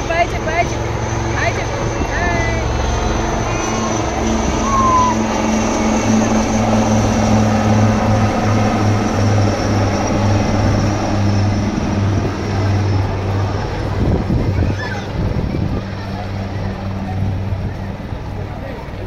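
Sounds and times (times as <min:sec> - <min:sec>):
helicopter rotors droning: 0:00.0 - 0:19.0.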